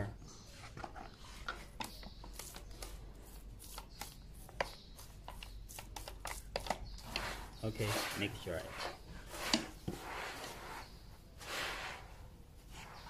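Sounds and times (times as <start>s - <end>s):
fingers scraping through gritty material: 0.5s - 13.0s.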